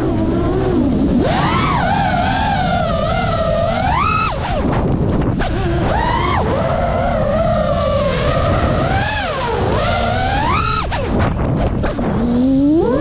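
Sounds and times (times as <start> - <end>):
drone motors whining: 0.0 - 13.0
wind rush on microphone: 0.0 - 13.0.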